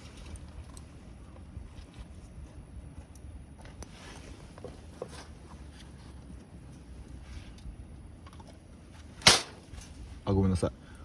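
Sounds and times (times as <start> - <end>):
low fire rumble: 0.0 - 11.0.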